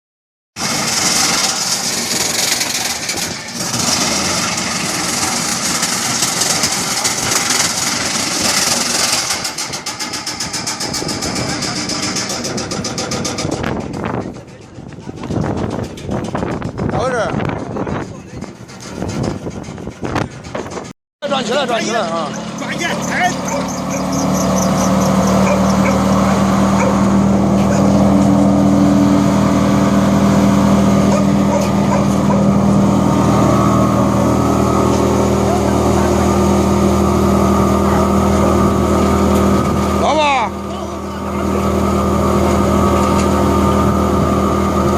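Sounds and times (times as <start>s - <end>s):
higher machine hum: 0.6s - 44.9s
wood chipper running: 0.6s - 44.9s.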